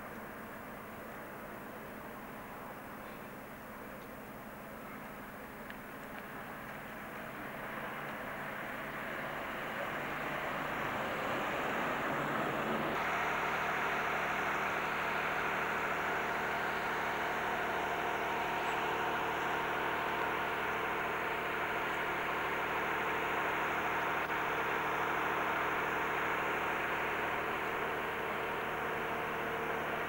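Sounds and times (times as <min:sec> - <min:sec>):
engine humming steadily: 0:00.0 - 0:30.0.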